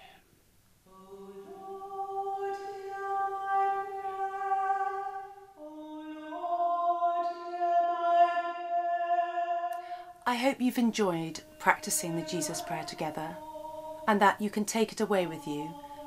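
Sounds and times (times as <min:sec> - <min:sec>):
person singing long held notes: 0:00.9 - 0:10.2, 0:11.3 - 0:14.4, 0:15.0 - 0:16.0.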